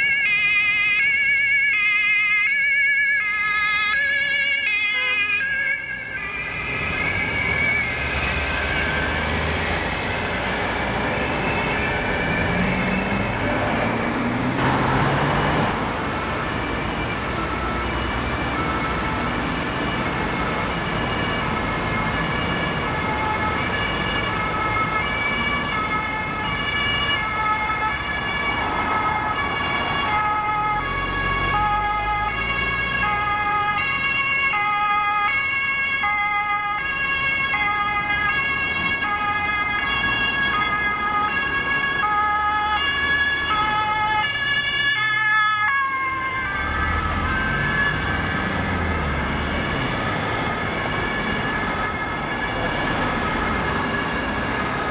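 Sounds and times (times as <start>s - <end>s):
road traffic rumble: 0.0s - 54.9s
two-tone emergency sirens: 0.0s - 54.9s.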